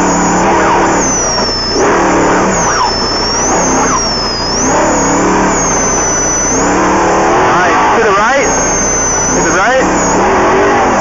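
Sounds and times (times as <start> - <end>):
off-road vehicle engine: 0.0 - 11.0
thin high whine: 0.0 - 11.0.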